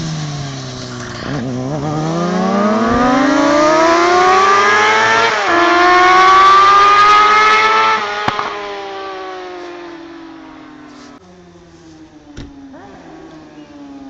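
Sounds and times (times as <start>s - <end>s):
motorcycle accelerating hard: 0.0s - 11.2s, 12.5s - 14.0s.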